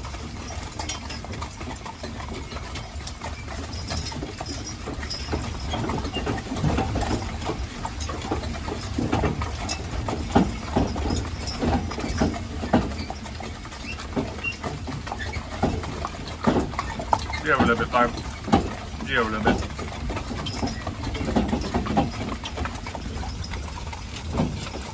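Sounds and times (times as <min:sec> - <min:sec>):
horse hooves clip-clopping: 0:00.0 - 0:24.9.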